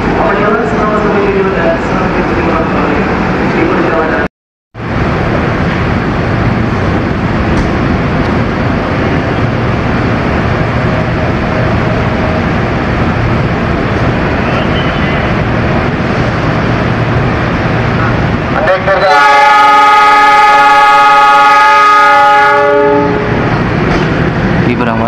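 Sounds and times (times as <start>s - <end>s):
electric train humming and whirring: 0.0s - 25.0s.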